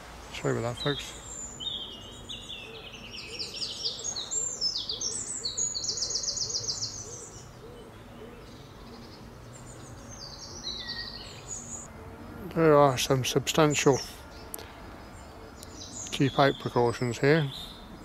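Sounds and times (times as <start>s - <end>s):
songbird trilling song: 0.3s - 11.9s, 12.8s - 18.0s.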